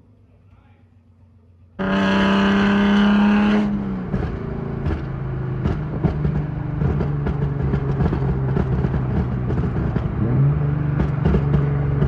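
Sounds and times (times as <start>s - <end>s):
car engine revving: 1.8s - 12.0s.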